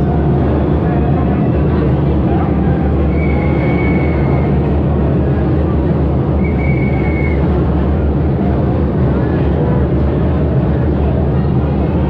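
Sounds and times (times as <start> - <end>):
crowd noise: 0.0 - 12.0.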